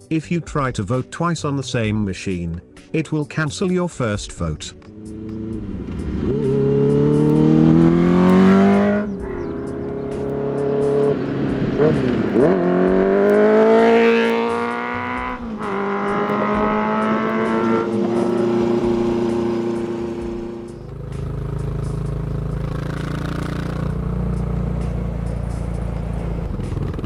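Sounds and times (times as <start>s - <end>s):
motorcycle engine accelerating: 4.8s - 27.0s.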